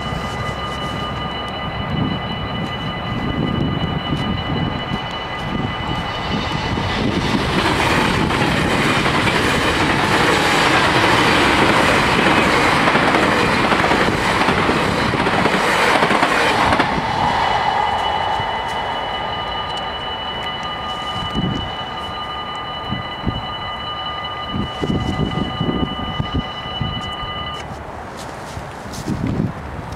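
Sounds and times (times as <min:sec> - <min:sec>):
level crossing bells ringing: 0:00.0 - 0:27.8
train rolling with wheel clatter: 0:00.0 - 0:29.9.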